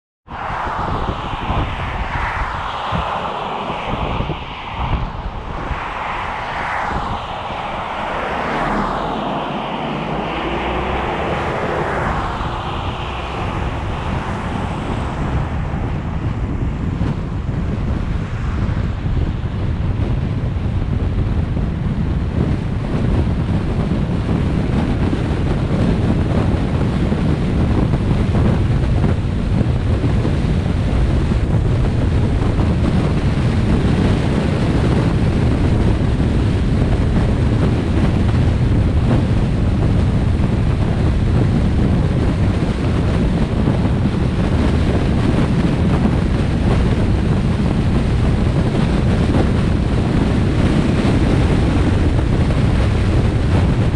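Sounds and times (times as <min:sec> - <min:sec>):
wind buffeting microphone: 0:00.2 - 0:53.9
car road noise rumble: 0:00.3 - 0:53.9.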